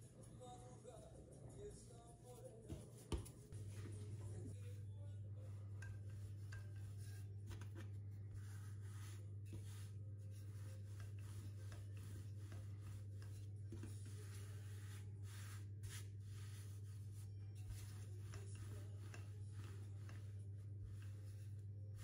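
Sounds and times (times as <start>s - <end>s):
steady low hum: 0.0s - 22.0s
rolling pin rubbing dough: 2.6s - 22.0s.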